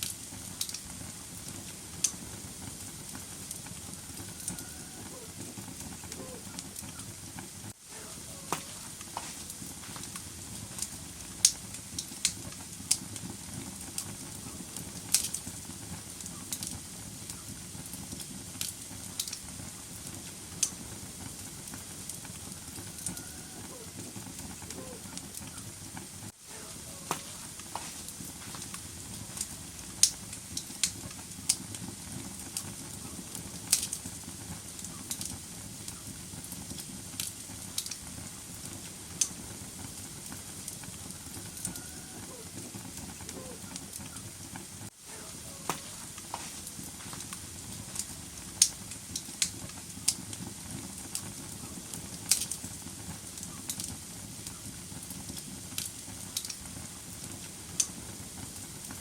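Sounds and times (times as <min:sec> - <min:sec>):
fire flames rushing: 0:00.0 - 0:59.0
logs crackling and popping: 0:00.0 - 0:59.0.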